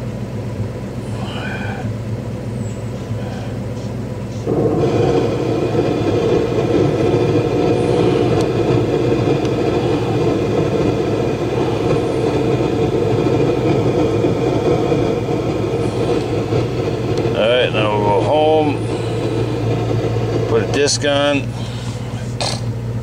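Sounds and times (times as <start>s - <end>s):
car speakers playing noisy sound: 0.0s - 23.0s.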